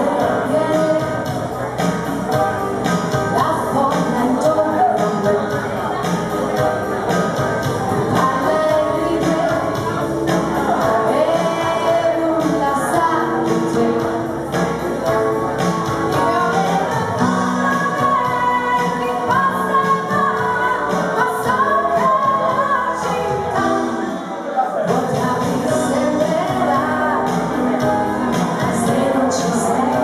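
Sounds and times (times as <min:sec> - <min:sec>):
band with guitar and keyboard: 0:00.0 - 0:30.0
woman singing into microphone: 0:00.0 - 0:30.0.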